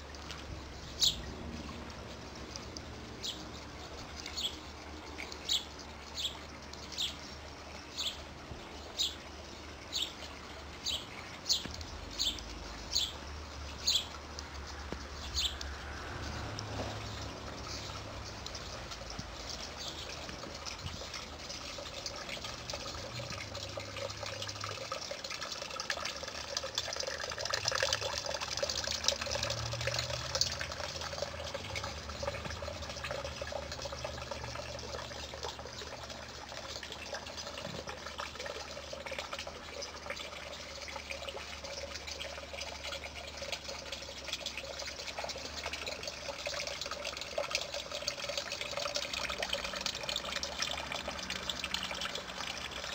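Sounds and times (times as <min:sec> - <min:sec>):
water trickling and splashing: 0:00.0 - 0:52.9.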